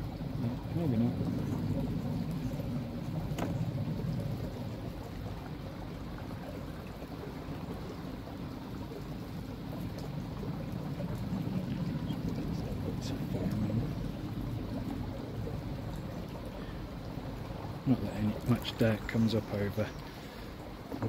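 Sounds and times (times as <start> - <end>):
water rushing through filter: 0.0 - 21.0.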